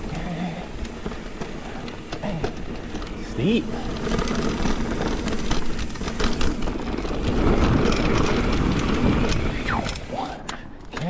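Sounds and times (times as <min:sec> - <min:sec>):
mountain bike rumbling on trail: 0:00.0 - 0:10.4
bike rattling clicks: 0:00.0 - 0:11.0.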